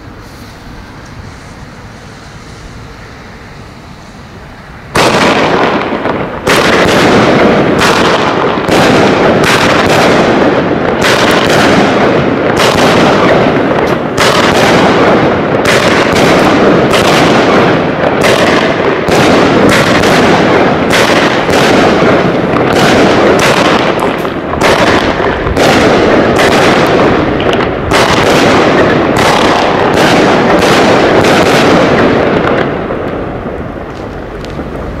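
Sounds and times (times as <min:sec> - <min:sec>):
fireworks launching and bursting: 0:00.0 - 0:35.0.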